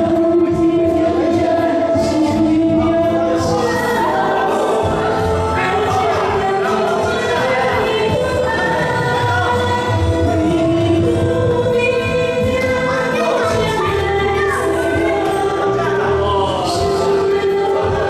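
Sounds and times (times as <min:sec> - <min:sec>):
voices singing held notes: 0:00.0 - 0:18.0.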